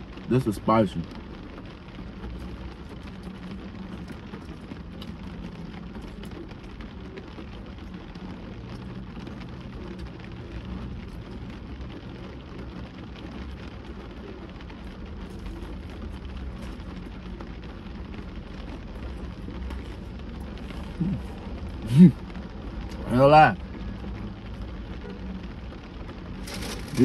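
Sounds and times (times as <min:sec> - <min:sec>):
rain pattering on a car roof: 0:00.0 - 0:27.0.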